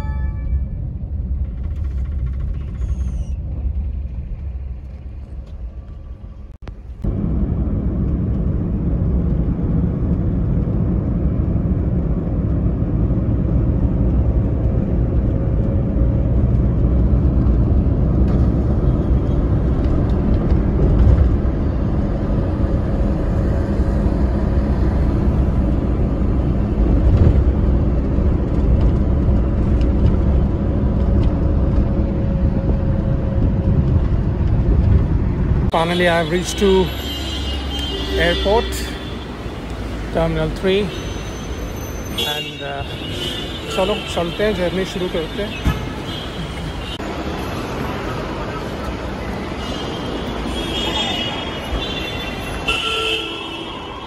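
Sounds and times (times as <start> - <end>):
road and engine rumble in car: 0.0 - 49.6.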